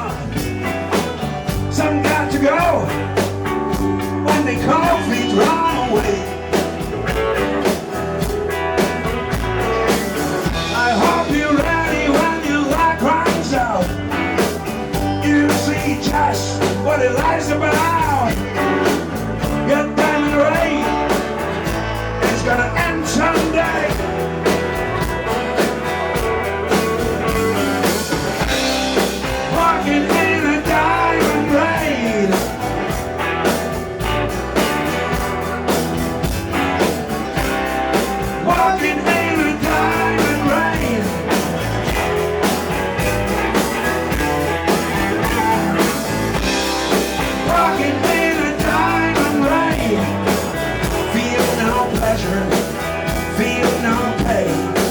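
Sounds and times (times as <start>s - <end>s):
blues-rock band playing live: 0.0s - 54.9s
lead electric guitar bent notes: 0.0s - 54.9s.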